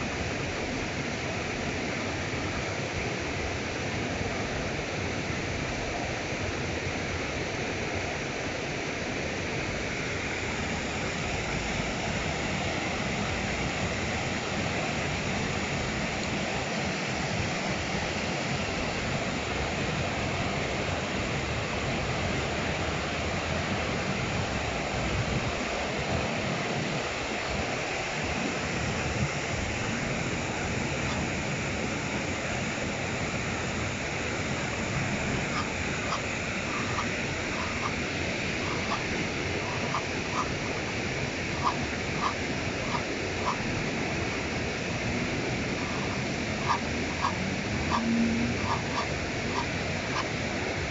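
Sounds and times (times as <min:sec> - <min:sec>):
river water rushing over a weir: 0:00.0 - 0:50.9.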